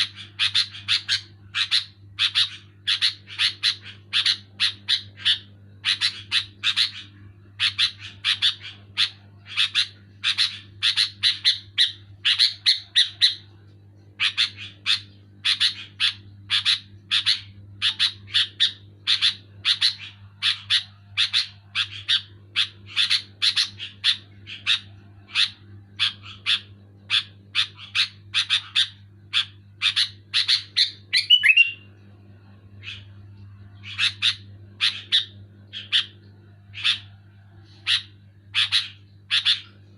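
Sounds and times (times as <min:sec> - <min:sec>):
bird chirping rapidly: 0:00.0 - 0:13.5, 0:14.2 - 0:31.9, 0:33.8 - 0:37.1, 0:37.8 - 0:39.8.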